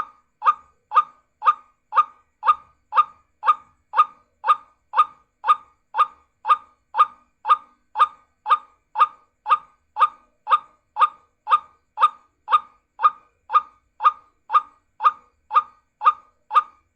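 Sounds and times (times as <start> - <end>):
recorded bird call: 0.0 - 16.9.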